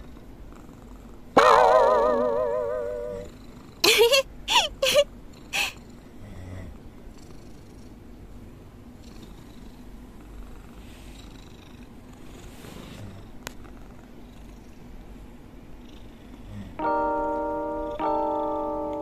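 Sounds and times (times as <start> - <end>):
cat purring: 0.0 - 3.9, 5.3 - 16.8.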